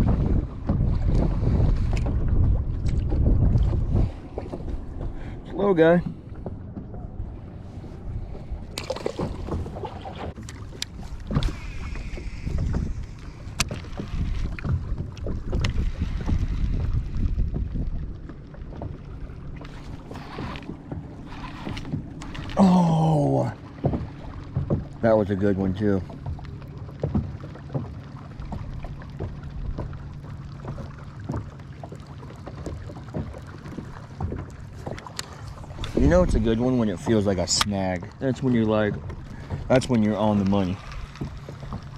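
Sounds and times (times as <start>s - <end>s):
water moving around kayak: 0.0s - 41.9s
wind rumbling on microphone: 0.0s - 41.9s.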